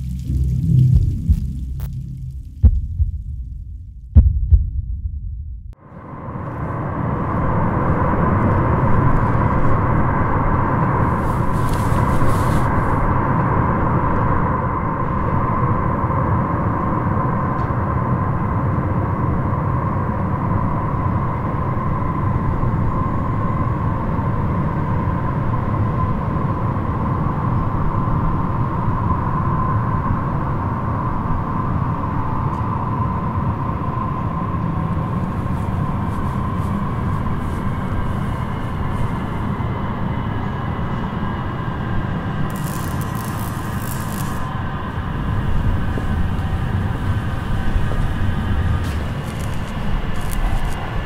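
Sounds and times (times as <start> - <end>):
constant hum: 0.0 - 51.0
low rumble: 0.0 - 51.0.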